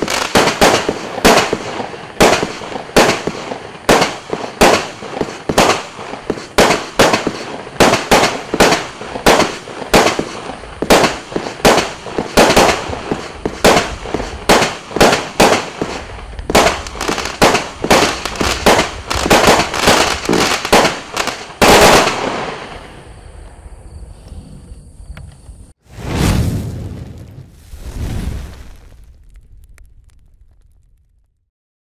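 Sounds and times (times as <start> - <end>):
faint hiss: 0.0 - 30.0.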